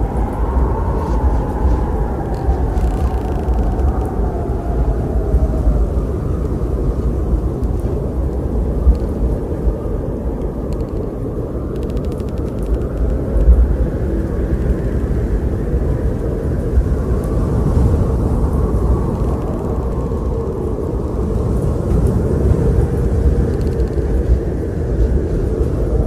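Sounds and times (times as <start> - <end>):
strong wind blowing: 0.0 - 26.0
wind whistling in gusts: 0.0 - 26.0.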